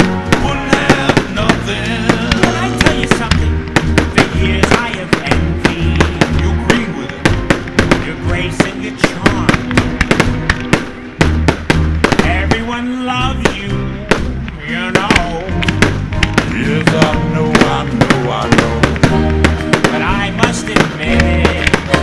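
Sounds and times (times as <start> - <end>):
fireworks bangs and cracks: 0.0 - 22.0
loud music soundtrack: 0.0 - 22.0.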